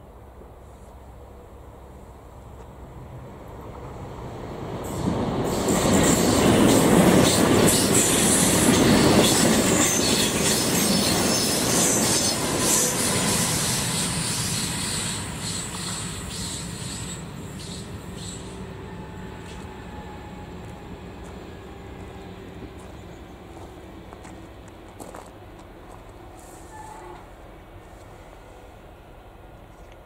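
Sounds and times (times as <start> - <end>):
train passing: 0.0 - 30.0.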